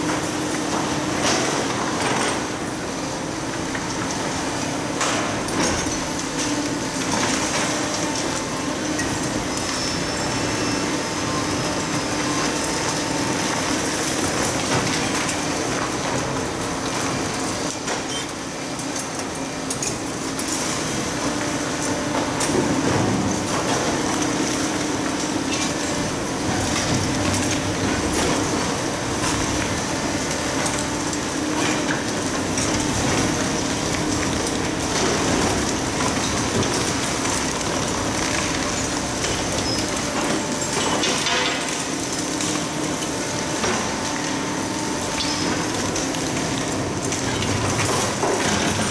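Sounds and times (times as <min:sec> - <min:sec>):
excavator engine hum: 0:00.0 - 0:48.9.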